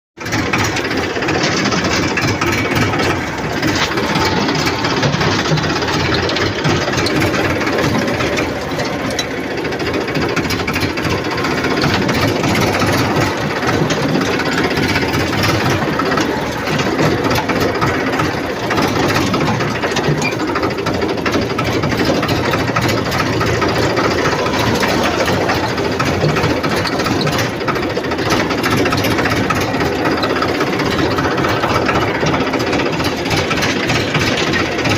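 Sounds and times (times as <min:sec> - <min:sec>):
tractor engine knocking: 0:00.2 - 0:34.9.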